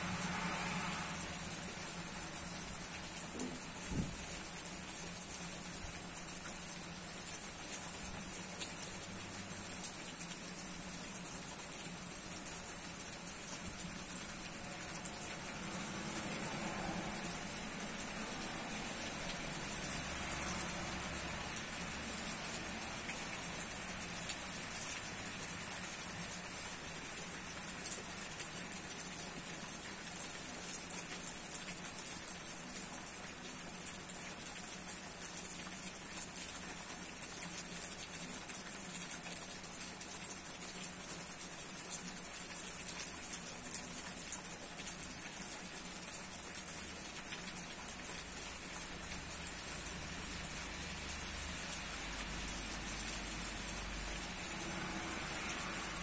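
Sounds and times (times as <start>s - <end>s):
rain falling on foliage: 0.0s - 56.0s.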